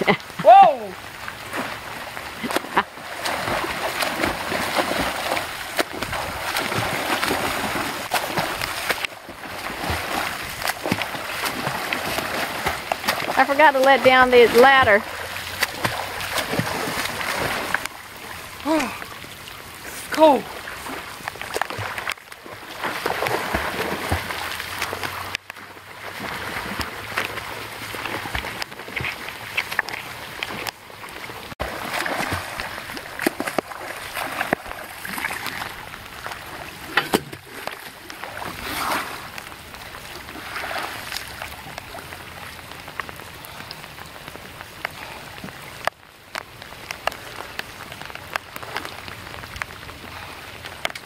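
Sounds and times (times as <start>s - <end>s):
swimmer splashing: 0.0s - 45.4s
rain falling on water: 0.0s - 51.0s.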